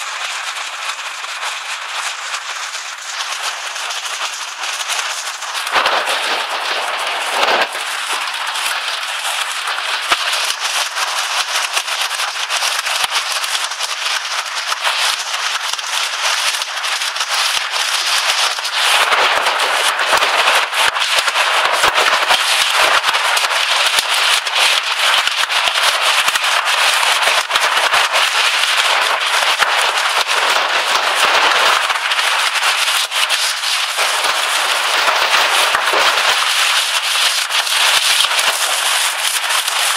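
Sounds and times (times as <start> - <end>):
hailstones pelting a roof: 0.0 - 39.9.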